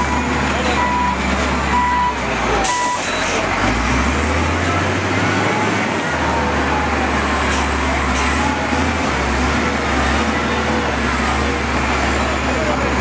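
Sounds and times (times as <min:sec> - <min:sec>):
wheel loader diesel engine: 0:00.0 - 0:13.0.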